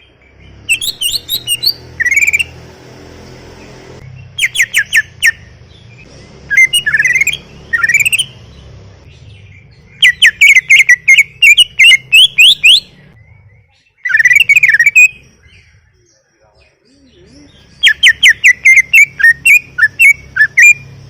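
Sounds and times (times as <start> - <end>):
bird whistling song: 0.0 - 2.6, 4.0 - 16.2, 16.9 - 21.0.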